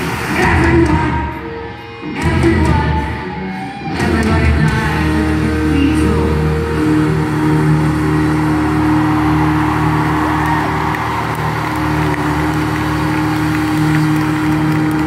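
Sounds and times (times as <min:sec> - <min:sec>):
distorted guitar noise and feedback: 0:00.0 - 0:15.0.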